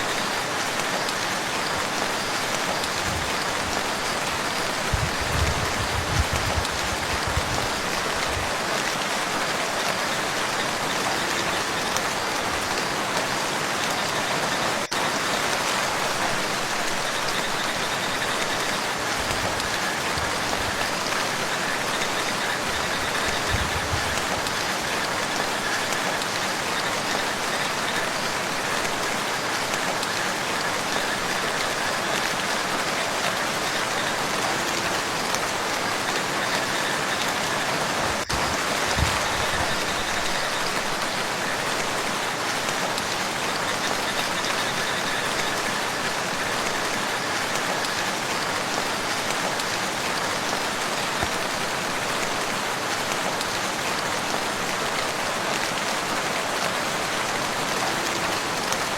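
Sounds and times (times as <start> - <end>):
rain on a lake: 0.0 - 58.9.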